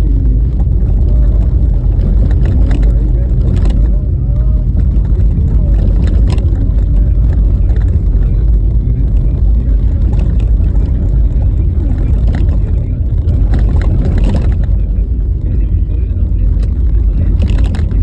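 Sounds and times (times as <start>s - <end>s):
knocks and rattles: 0.0s - 15.0s, 16.5s - 18.0s
tyre and road rumble: 0.0s - 18.0s.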